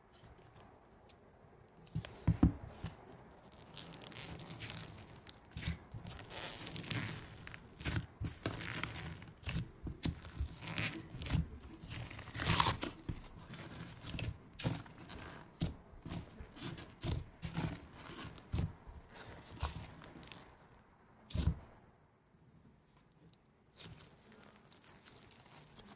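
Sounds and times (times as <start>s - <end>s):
slime crunching and squishing: 1.9s - 20.7s, 21.3s - 21.7s, 23.7s - 25.9s.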